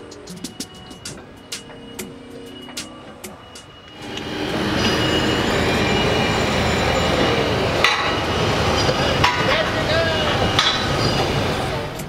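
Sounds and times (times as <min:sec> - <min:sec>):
heavy machinery: 0:00.3 - 0:12.0.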